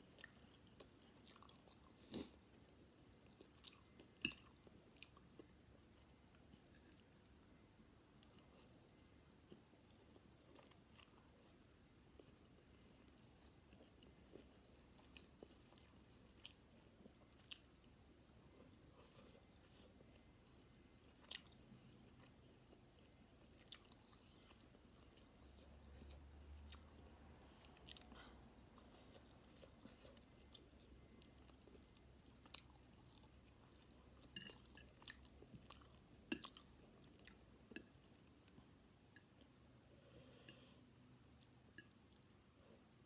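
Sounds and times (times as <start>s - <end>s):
faint chewing of noodles: 0.0s - 43.0s.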